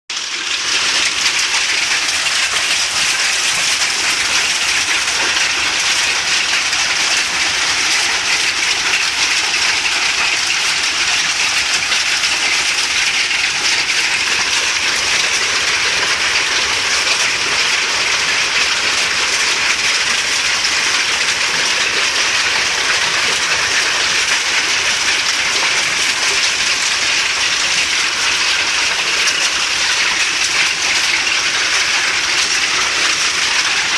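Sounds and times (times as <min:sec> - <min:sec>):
hailstones clattering: 0:00.4 - 0:33.9.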